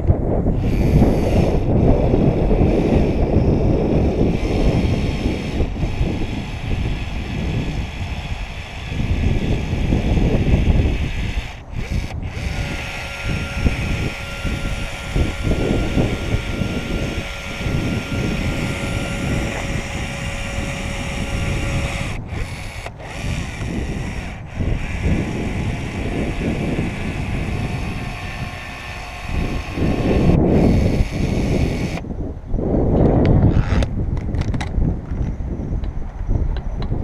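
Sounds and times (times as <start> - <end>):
power tool whine: 0.0 - 32.2
wind buffeting microphone: 0.0 - 37.0.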